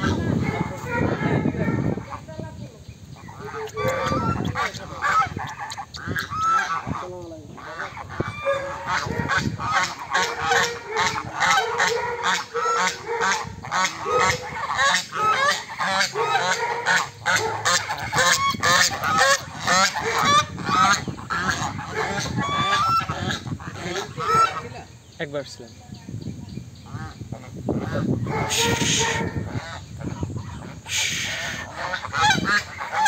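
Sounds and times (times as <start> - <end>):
geese honking: 0.0 - 2.3, 3.2 - 25.0, 26.8 - 33.0.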